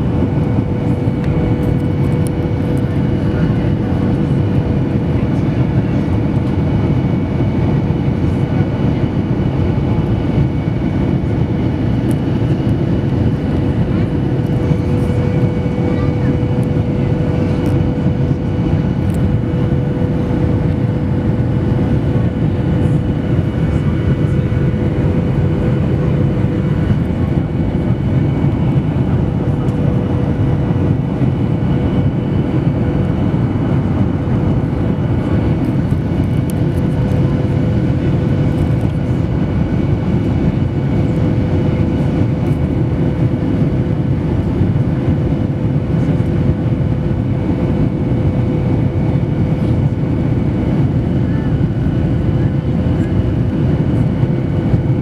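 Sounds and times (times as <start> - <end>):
steady cabin hum: 0.0 - 7.6, 8.8 - 51.0
airplane cabin engine roar: 0.0 - 55.0.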